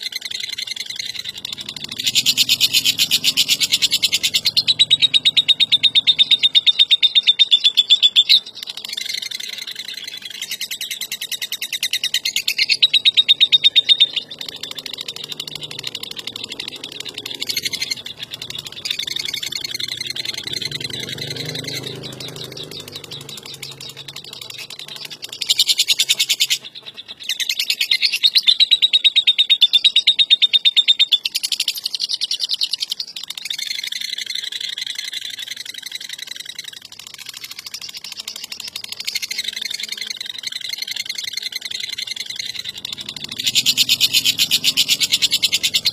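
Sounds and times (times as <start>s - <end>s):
lovebird rattling chatter: 0.0s - 7.5s, 8.4s - 26.7s, 32.8s - 45.9s.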